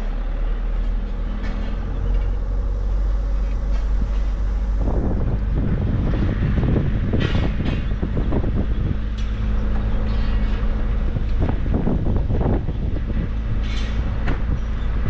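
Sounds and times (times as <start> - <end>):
steady low hum: 0.0 - 15.0
wind buffeting microphone: 1.0 - 15.0.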